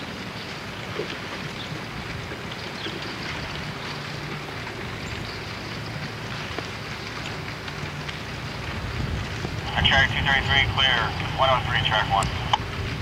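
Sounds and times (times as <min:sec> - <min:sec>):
diesel train rumbling: 0:01.8 - 0:13.0.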